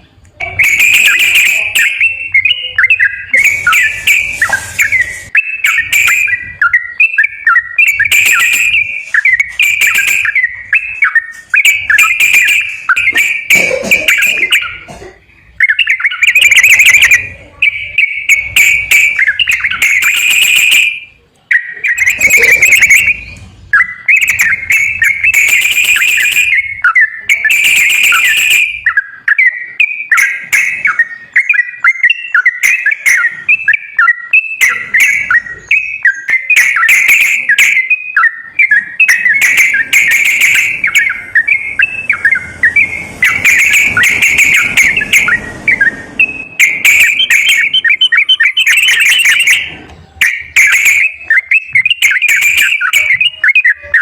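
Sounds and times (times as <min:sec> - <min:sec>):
bulbul song: 0:00.0 - 0:54.0.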